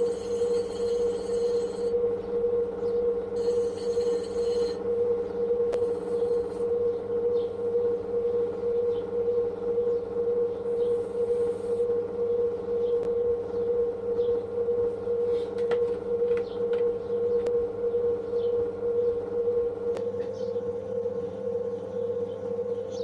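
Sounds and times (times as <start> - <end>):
pottery wheel motor hum: 0.0 - 23.0.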